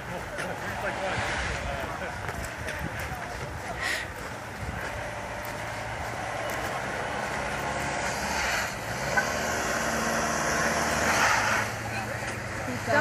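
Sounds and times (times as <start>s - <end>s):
car engine under throttle: 0.0s - 13.0s.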